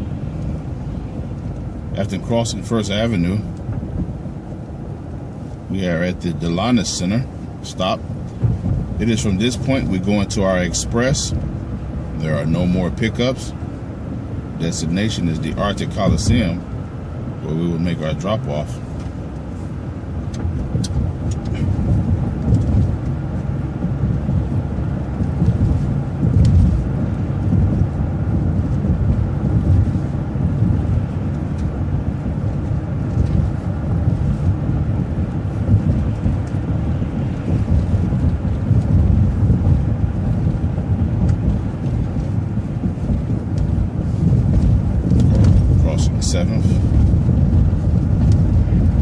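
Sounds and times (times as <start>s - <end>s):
bus engine and tyres rumbling: 0.0s - 49.0s.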